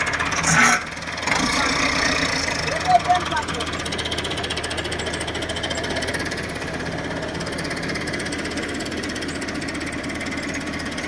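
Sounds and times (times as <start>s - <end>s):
tractor diesel engine chugging: 0.0s - 11.0s.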